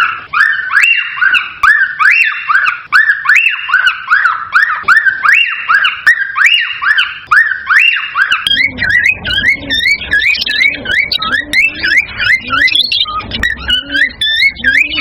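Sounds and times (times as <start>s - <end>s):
cockatiel whistling: 0.0s - 15.0s.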